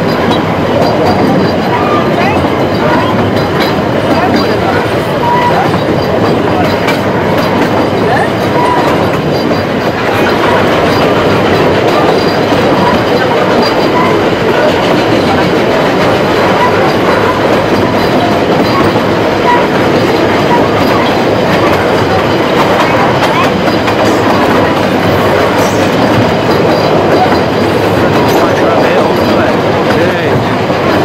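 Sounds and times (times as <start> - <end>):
train wheels clattering and rumbling: 0.0 - 31.0.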